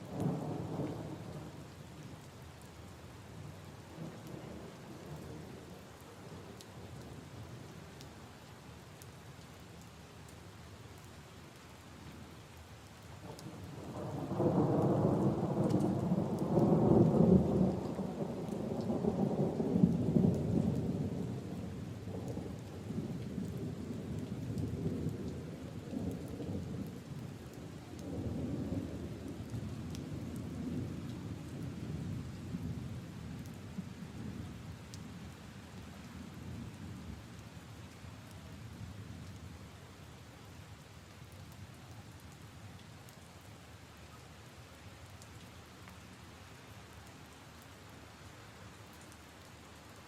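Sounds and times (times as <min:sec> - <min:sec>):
rain on puddles and leaves: 0:00.0 - 0:50.0.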